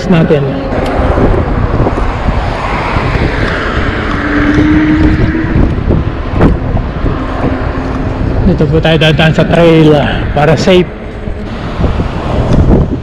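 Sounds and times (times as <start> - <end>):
low road rumble: 0.0 - 13.0
wind buffeting microphone: 0.0 - 13.0.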